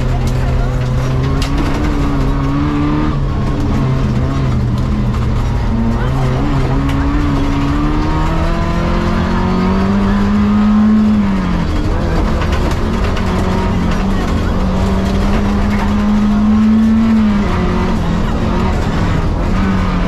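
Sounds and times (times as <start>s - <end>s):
rally car engine revving: 0.0s - 20.0s
tyres rumbling on dirt: 0.0s - 20.0s.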